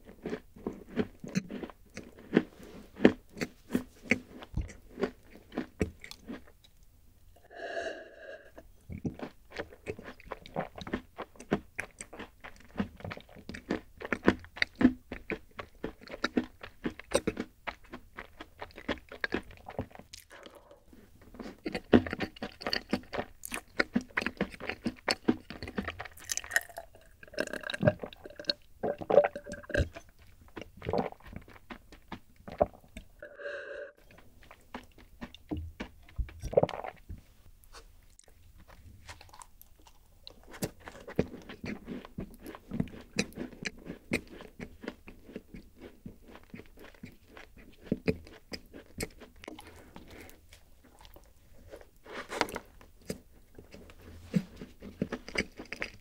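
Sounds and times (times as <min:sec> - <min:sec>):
chewing and crunching cookies: 0:00.0 - 0:06.9, 0:08.5 - 0:33.2, 0:34.0 - 0:56.0.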